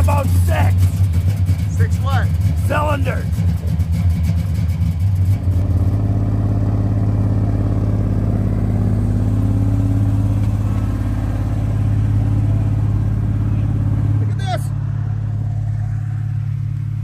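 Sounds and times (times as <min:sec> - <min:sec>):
rough car engine idling: 0:00.0 - 0:17.0.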